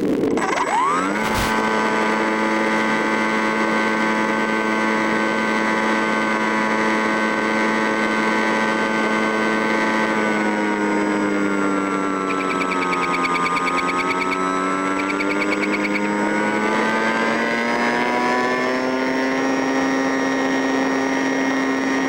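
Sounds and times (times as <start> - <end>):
small motor whining: 0.5 - 22.0.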